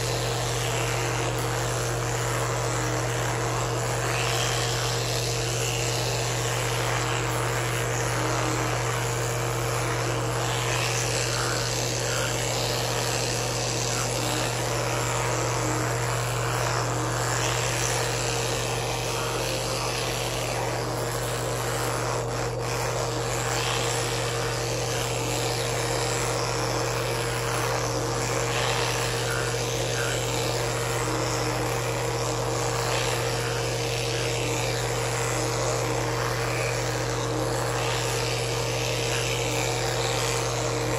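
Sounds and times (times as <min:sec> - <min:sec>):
electric toothbrush humming: 0:00.0 - 0:40.9.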